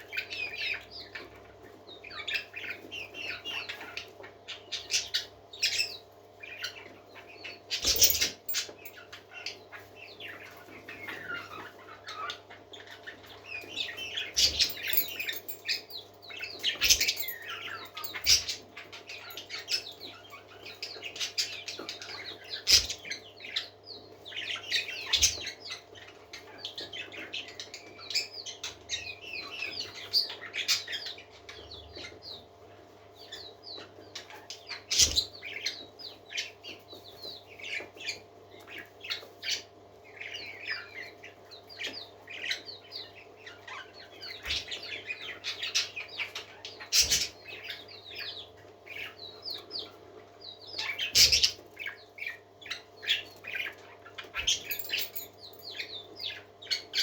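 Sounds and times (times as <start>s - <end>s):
parakeets chattering: 0.0s - 32.4s, 33.2s - 57.0s.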